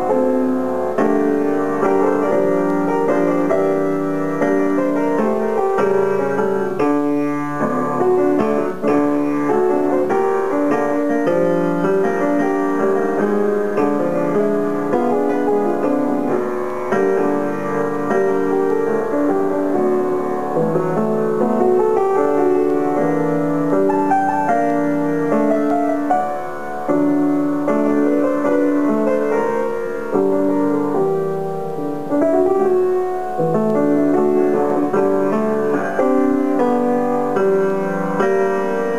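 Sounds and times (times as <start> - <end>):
grand piano melody: 0.0 - 38.9.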